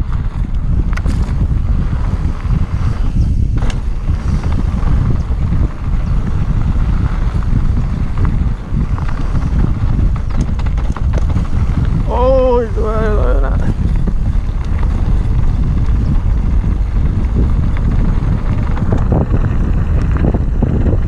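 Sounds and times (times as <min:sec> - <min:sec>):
bike frame rattling: 0:00.0 - 0:21.0
wind buffeting microphone: 0:00.0 - 0:21.0.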